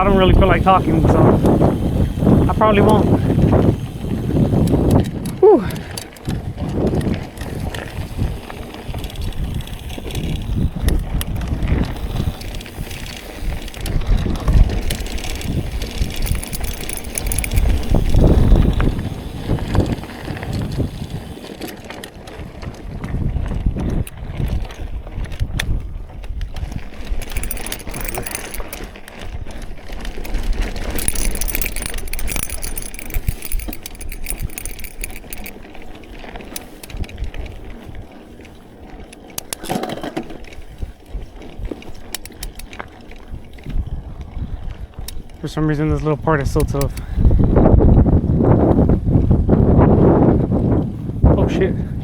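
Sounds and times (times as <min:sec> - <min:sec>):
bike clicks and rattles: 0:00.0 - 0:51.2
bike tyres rolling over rough ground: 0:00.0 - 0:52.0.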